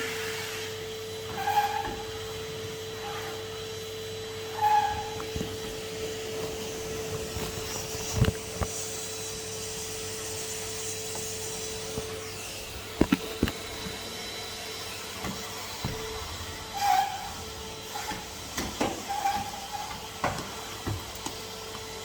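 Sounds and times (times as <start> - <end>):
vacuum cleaner humming: 0.0 - 22.0.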